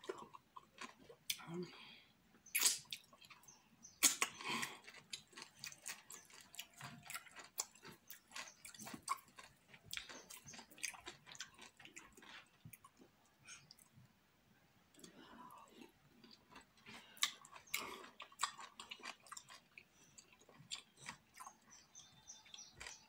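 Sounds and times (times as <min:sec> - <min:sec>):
wet chewing and mouth sounds: 0:00.0 - 0:01.5, 0:02.4 - 0:14.0, 0:14.9 - 0:23.0.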